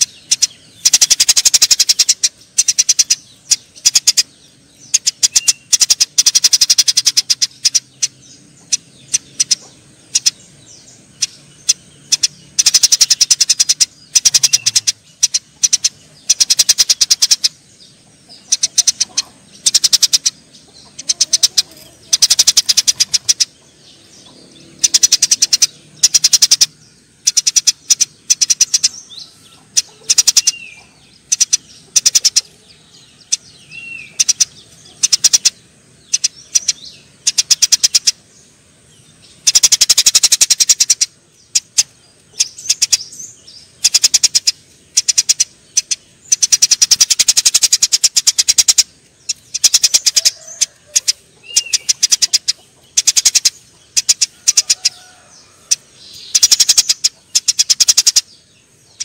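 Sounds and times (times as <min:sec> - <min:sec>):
sparrows chirping rapidly: 0:00.0 - 0:59.0.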